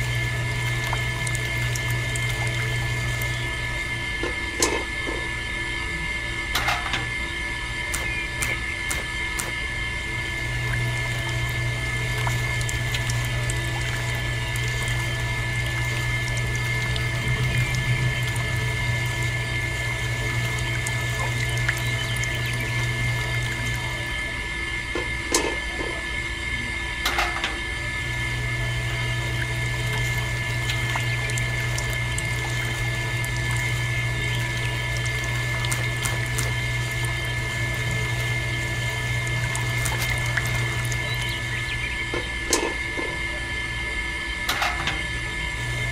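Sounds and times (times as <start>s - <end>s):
electric motor humming and whining: 0.0s - 45.9s.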